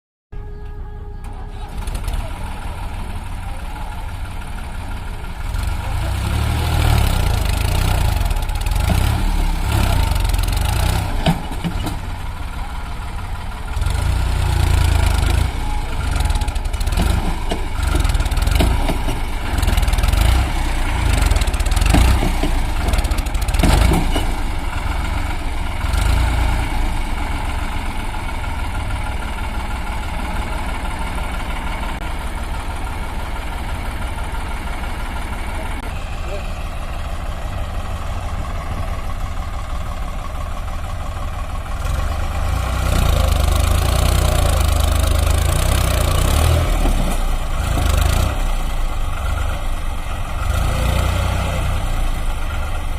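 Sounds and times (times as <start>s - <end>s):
diesel engine revving under load: 0.7s - 52.9s.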